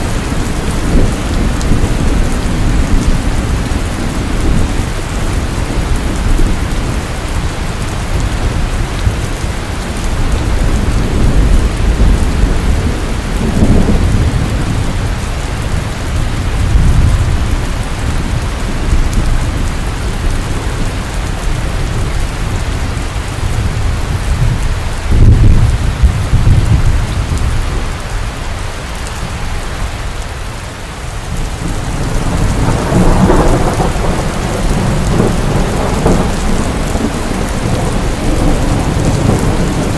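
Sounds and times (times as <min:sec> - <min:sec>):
thunder rumbling: 0:00.0 - 0:28.1, 0:31.2 - 0:39.9
heavy rain falling: 0:00.0 - 0:39.9.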